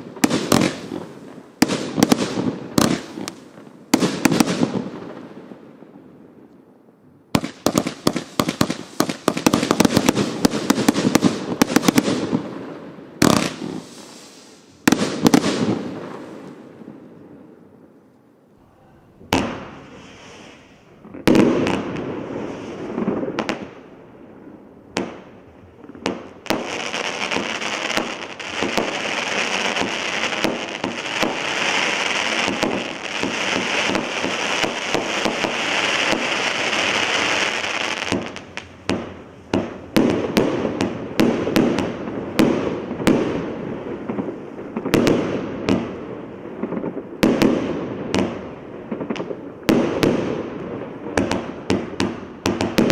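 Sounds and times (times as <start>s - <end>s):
fireworks barrage bangs: 0.0s - 5.6s, 7.3s - 17.4s, 19.2s - 24.0s, 24.9s - 52.9s.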